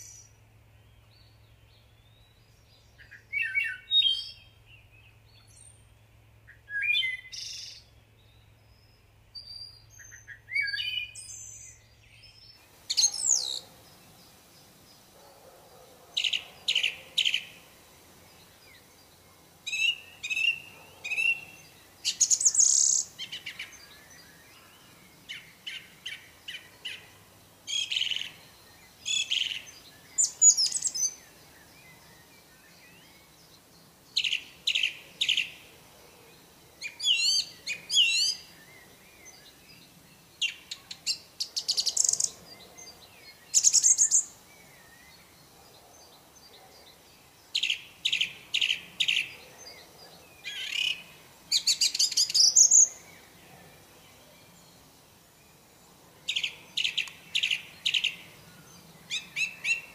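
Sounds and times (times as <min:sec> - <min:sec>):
song thrush singing: 0:00.0 - 0:59.9.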